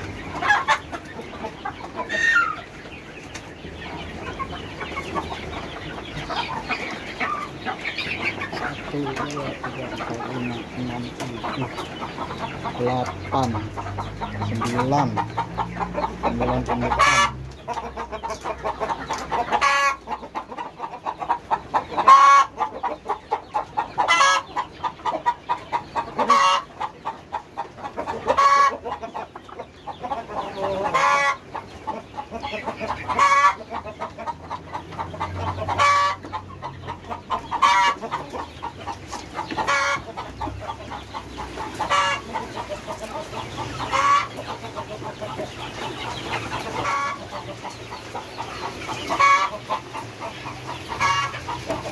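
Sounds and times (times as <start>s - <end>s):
chicken calls: 0.0s - 51.9s
chickens clucking: 0.0s - 51.9s.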